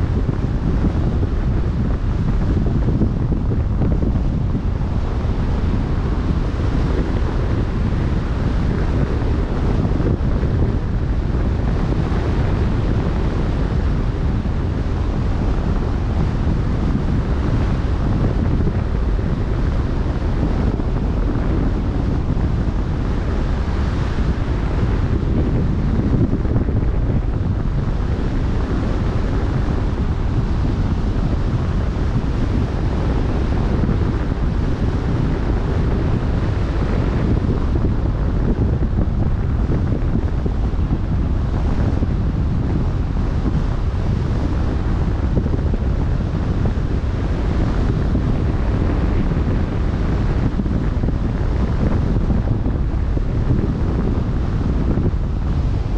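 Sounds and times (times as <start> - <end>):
choppy sea waves: 0.0 - 55.9
wind buffeting microphone: 0.0 - 55.9.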